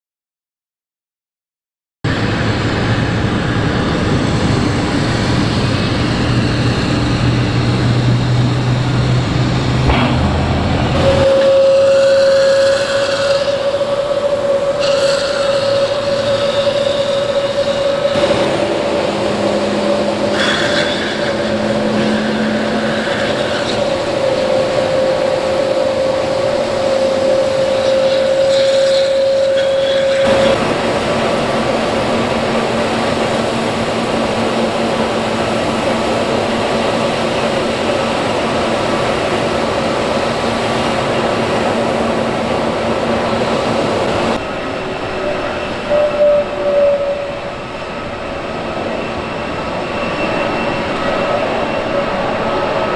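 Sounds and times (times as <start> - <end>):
jet engine rushing noise: 2.1 - 52.9
jet engine whine: 2.1 - 52.9.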